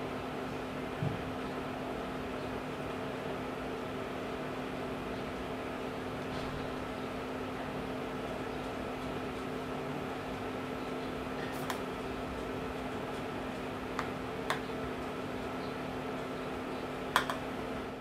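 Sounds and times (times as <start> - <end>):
mechanical hum with hiss: 0.0 - 18.0.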